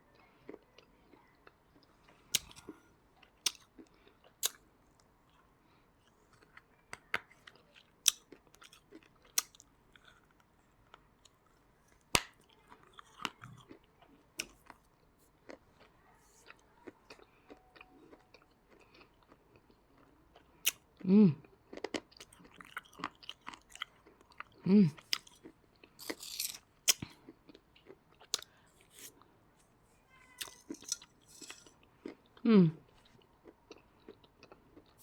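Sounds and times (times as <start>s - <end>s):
crunchy chewing: 0.5s - 20.8s, 21.7s - 29.3s, 30.4s - 35.0s.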